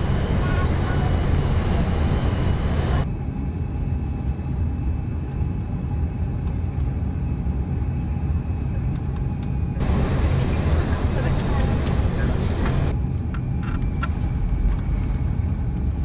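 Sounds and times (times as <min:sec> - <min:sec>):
airliner cabin rumble: 0:00.0 - 0:16.0
faint steady whine: 0:00.0 - 0:16.0.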